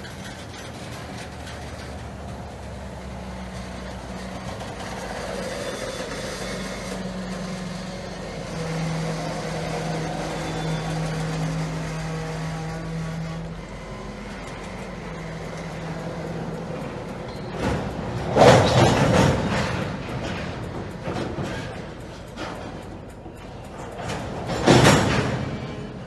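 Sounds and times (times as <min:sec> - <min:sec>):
freight train rumbling on rails: 0:00.0 - 0:26.0
low steady drone: 0:02.5 - 0:26.0.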